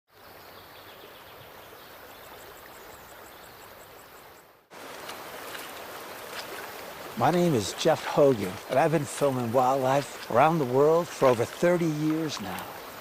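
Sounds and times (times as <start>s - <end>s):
flowing water rushing: 1.4s - 13.0s.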